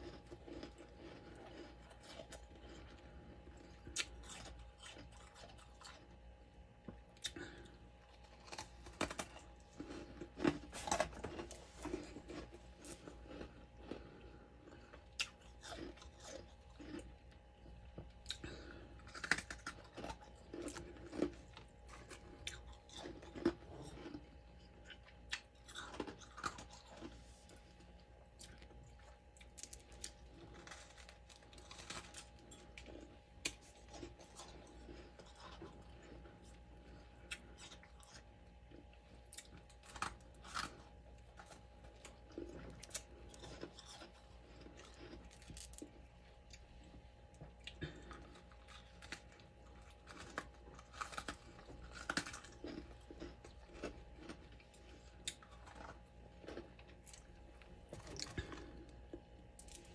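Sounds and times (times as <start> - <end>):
person crunching frost: 0.0 - 6.1, 7.2 - 46.7, 47.6 - 59.9.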